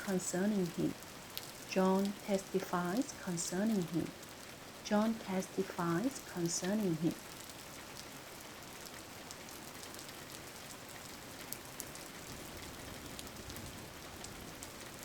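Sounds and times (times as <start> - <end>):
rain drops ticking: 0.0 - 15.0
steady rain hiss: 0.0 - 15.0.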